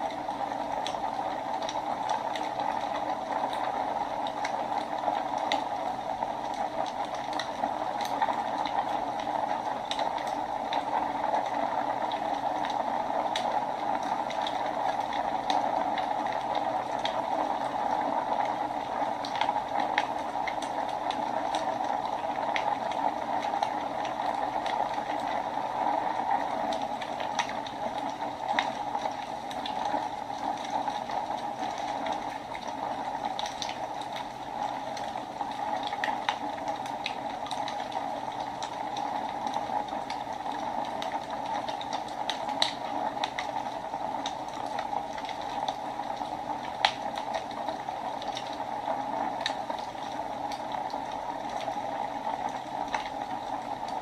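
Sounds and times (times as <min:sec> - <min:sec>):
burning wood crackling and popping: 0:00.7 - 0:54.0.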